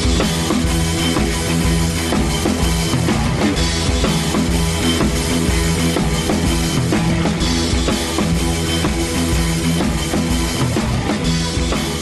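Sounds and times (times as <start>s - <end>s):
rock music: 0.0s - 12.0s
steady drum beat: 0.0s - 12.0s.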